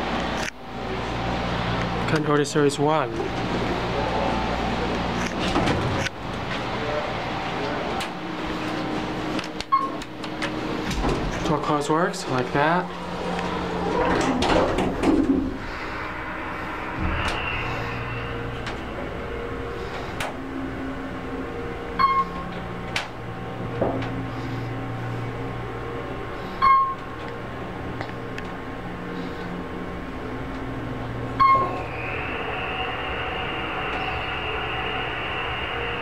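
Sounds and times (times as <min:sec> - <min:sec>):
elevator hum: 0:00.0 - 0:36.0.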